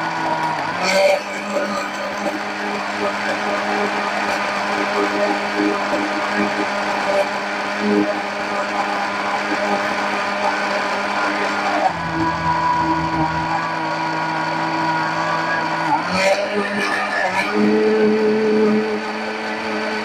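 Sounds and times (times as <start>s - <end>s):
mixer grinder blending: 0.0s - 20.0s.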